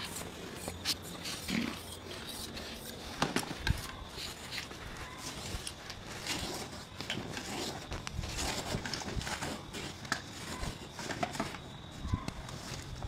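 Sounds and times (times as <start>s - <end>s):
knife scraping hide: 0.0s - 11.6s.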